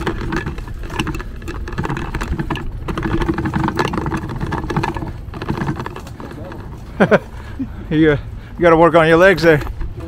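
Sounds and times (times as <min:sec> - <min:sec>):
bicycle rattling over pavers: 0:00.0 - 0:10.0.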